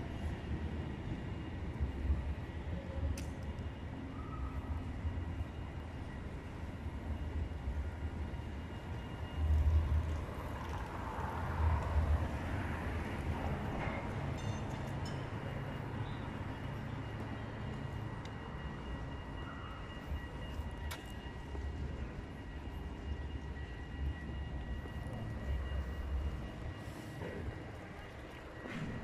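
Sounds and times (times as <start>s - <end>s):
faint high whine: 0.0s - 29.0s
tram rumbling past: 0.0s - 29.0s
wheel-on-rail noise: 4.8s - 29.0s.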